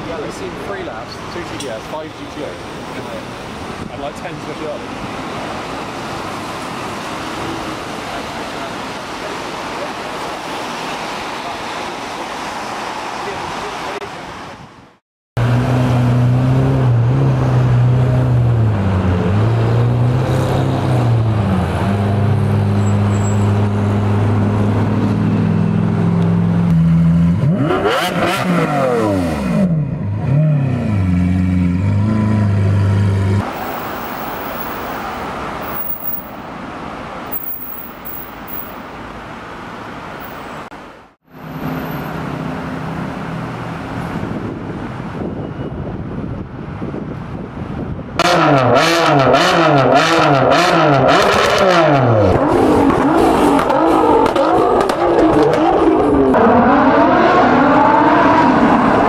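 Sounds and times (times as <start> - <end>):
street traffic noise: 0.0 - 59.0.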